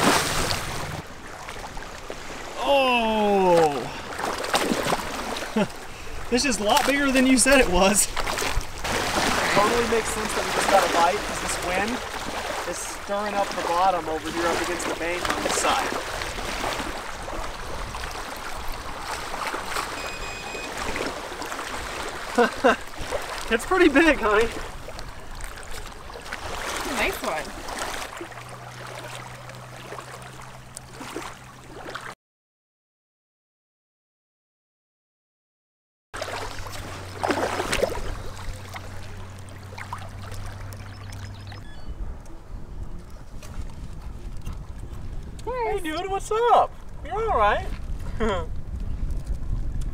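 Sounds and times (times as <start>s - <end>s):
water splashing and lapping: 0.0s - 32.2s, 36.2s - 41.9s, 42.8s - 48.2s
wind rumbling on microphone: 3.8s - 22.3s, 22.9s - 31.1s, 36.5s - 49.9s.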